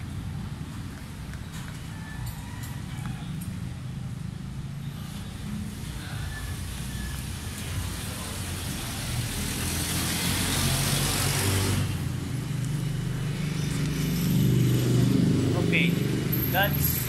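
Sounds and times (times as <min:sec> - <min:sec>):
broad rush of noise: 0:00.0 - 0:17.0
vehicle engine humming: 0:00.0 - 0:17.0.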